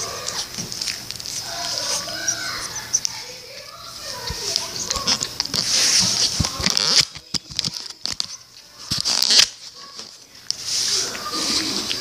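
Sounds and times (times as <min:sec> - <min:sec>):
rustling against microphone: 0:00.3 - 0:12.0.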